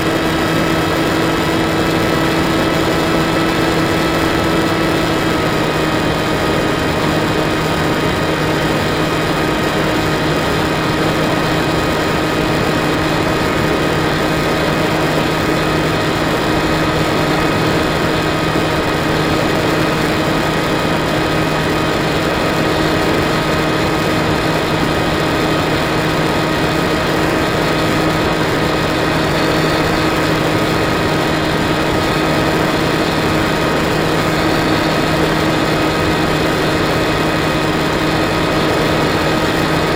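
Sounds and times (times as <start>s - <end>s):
electric motor and propeller whine: 0.0s - 39.9s
wind noise: 0.0s - 39.9s.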